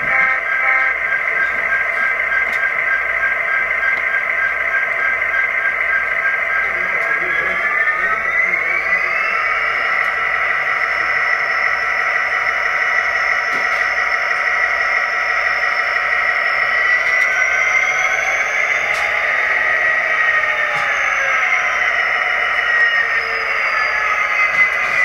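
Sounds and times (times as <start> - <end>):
high whine: 0.0 - 25.0
model diesel engine running: 0.0 - 25.0.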